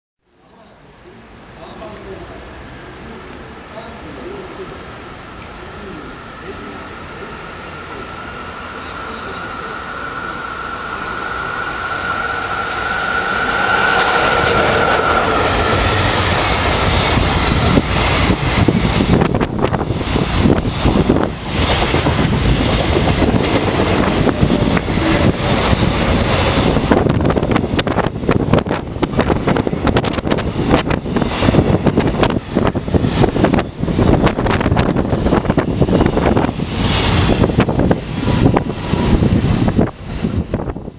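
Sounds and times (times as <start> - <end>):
electric locomotive whine: 1.4 - 40.9.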